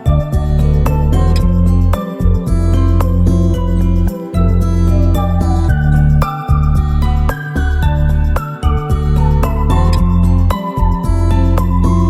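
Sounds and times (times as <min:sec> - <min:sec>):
gentle melodic background music: 0:00.0 - 0:12.0
steady bass: 0:00.0 - 0:12.0.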